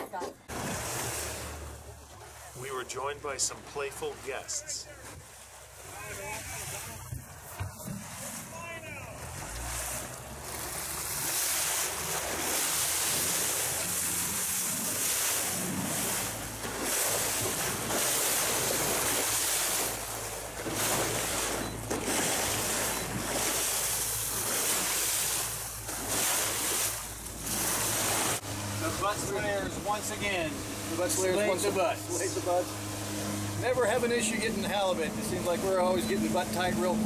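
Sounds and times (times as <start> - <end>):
water rushing along hull: 0.0 - 37.0
low engine hum: 0.4 - 37.0.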